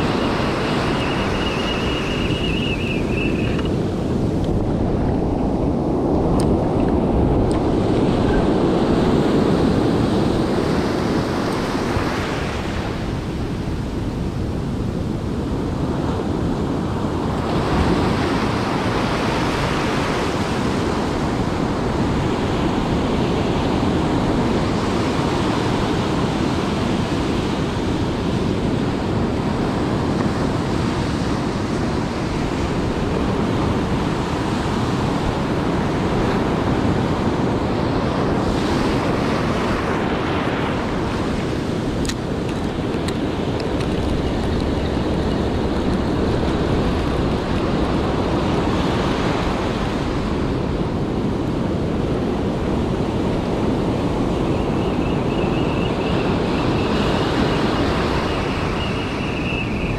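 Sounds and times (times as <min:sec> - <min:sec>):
ocean surf breaking on sand: 0:00.0 - 0:59.9.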